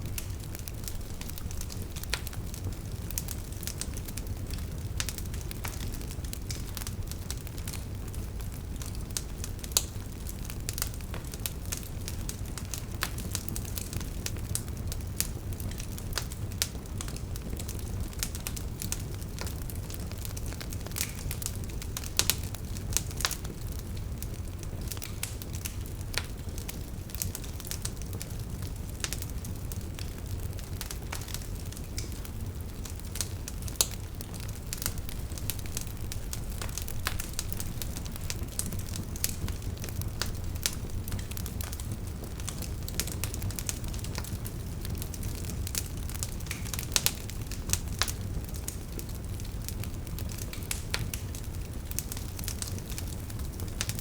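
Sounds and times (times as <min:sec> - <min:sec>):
burning wood popping and crackling: 0:00.0 - 0:54.0
campfire low rumble: 0:00.0 - 0:54.0.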